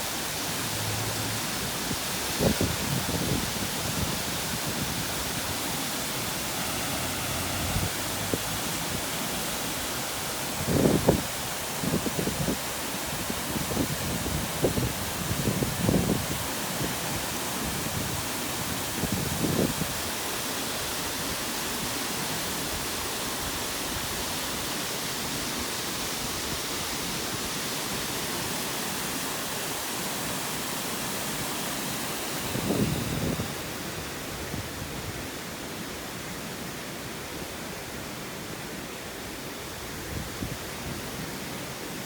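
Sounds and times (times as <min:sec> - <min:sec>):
floodwater rushing: 0:00.0 - 0:42.0.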